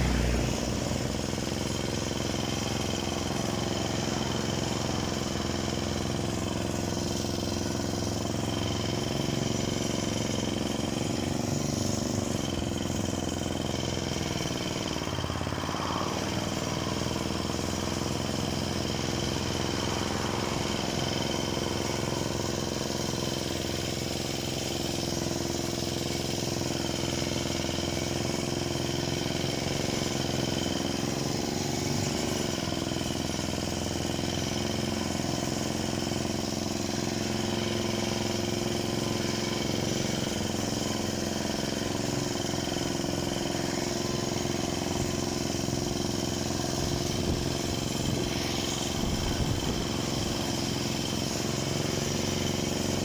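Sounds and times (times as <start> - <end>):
chainsaw running: 0.0 - 53.0.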